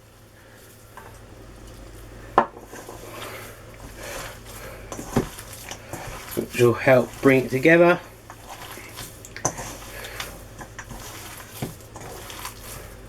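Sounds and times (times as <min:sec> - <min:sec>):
mixture scraping in bowl: 0:00.4 - 0:13.0.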